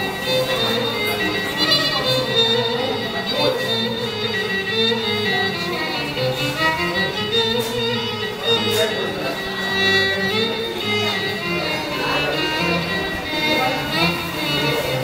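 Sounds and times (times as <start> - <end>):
solo violin melody: 0.0 - 15.0.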